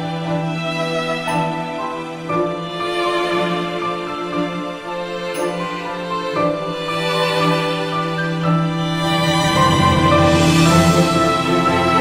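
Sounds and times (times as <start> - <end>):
slow gentle background music: 0.0 - 12.0.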